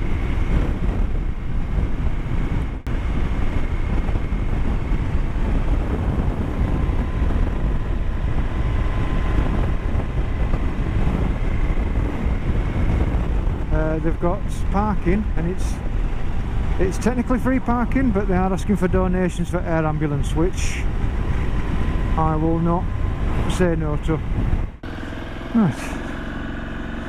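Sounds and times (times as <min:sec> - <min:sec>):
motorcycle engine and road noise: 0:00.0 - 0:27.0
wind buffeting microphone: 0:00.0 - 0:27.0.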